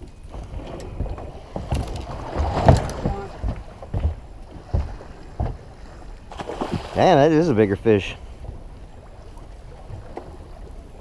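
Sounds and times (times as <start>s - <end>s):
knocks and thumps on boat: 0.0s - 11.0s.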